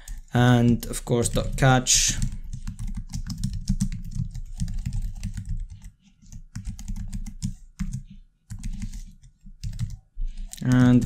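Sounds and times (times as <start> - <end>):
typing on keyboard: 0.0 - 11.0.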